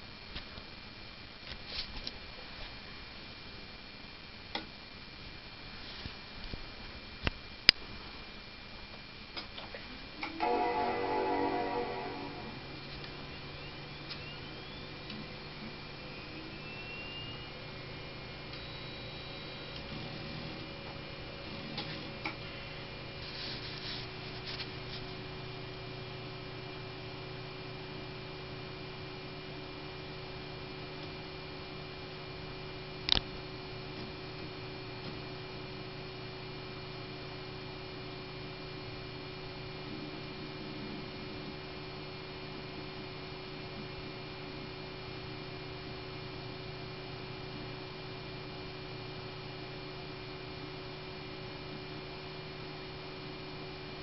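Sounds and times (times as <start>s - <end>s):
desktop computer humming: 0.0s - 54.0s.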